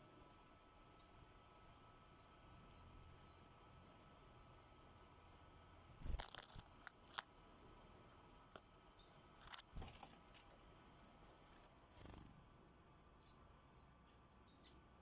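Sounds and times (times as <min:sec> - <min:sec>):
birds pecking and hopping: 0:00.0 - 0:13.2.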